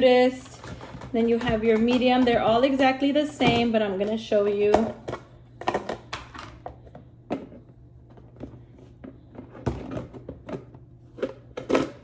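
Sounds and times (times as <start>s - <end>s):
plastic lids clicking and knocking: 0.6s - 3.8s, 4.7s - 7.6s, 8.3s - 12.0s.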